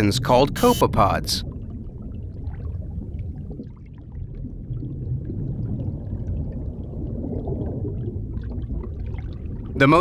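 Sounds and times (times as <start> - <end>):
muffled underwater rush: 0.0 - 10.0.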